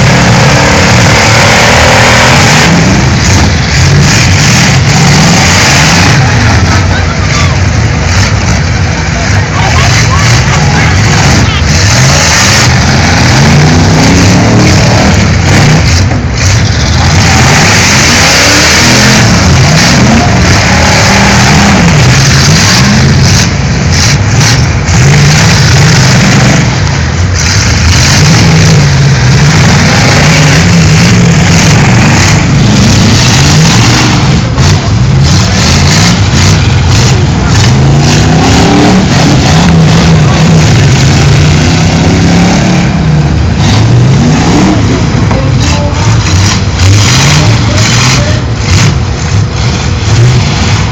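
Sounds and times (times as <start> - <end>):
car engines revving hard: 0.0 - 50.9.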